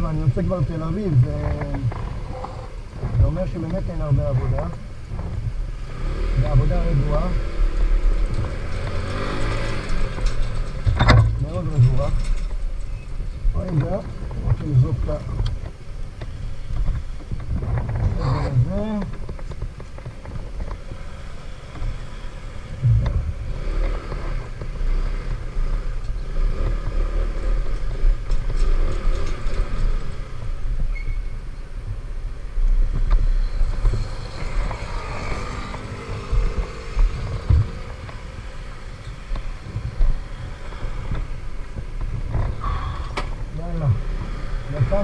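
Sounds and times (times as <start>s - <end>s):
wind and road noise: 0.0s - 45.0s.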